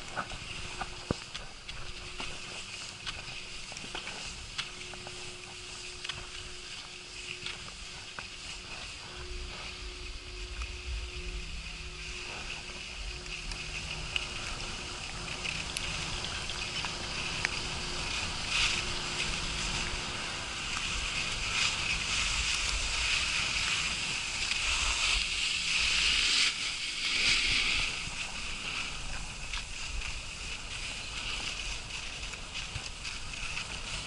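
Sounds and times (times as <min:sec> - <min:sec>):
skis hissing over snow: 0:00.0 - 0:34.0
wind rumble on microphone: 0:00.0 - 0:34.0.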